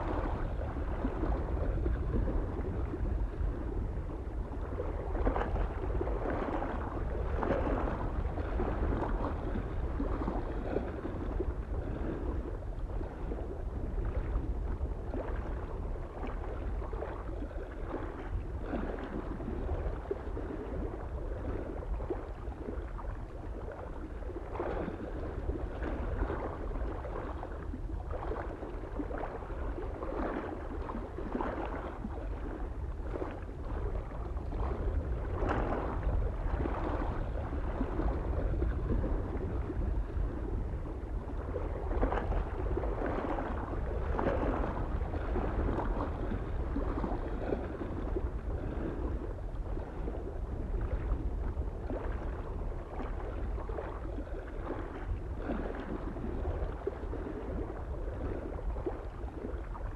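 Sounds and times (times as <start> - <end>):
low wind rumble: 0.0 - 59.9
small waves lapping on shore: 0.0 - 59.9.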